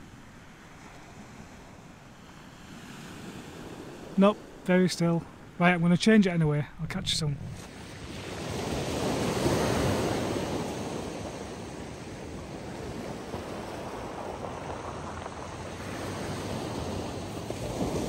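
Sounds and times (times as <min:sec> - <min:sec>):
waves washing on shingle beach: 0:00.0 - 0:05.6, 0:07.2 - 0:18.0.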